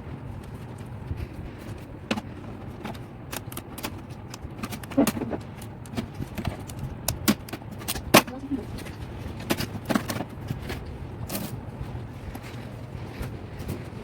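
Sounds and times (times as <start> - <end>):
hands handling printer packaging: 0.0 - 14.0
steady low hum: 0.0 - 14.0.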